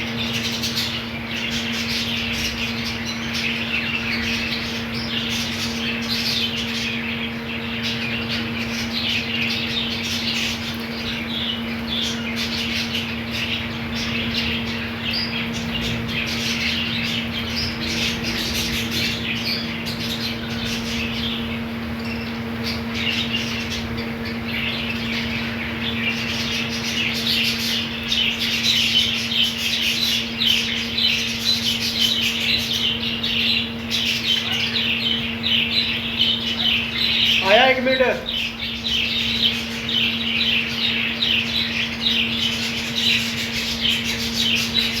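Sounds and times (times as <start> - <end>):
budgerigars chattering and squawking: 0.0 - 45.0.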